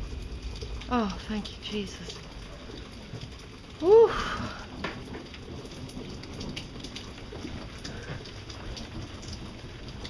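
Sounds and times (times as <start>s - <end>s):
sharp raindrop hits: 0.0s - 10.0s
steady rain: 0.0s - 10.0s.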